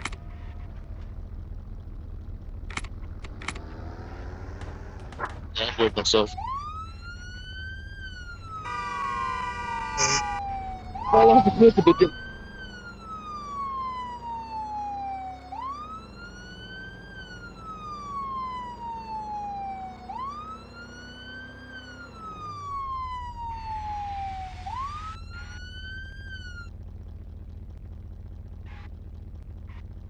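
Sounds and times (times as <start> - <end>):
police siren wailing: 0.0 - 2.4, 3.6 - 30.0.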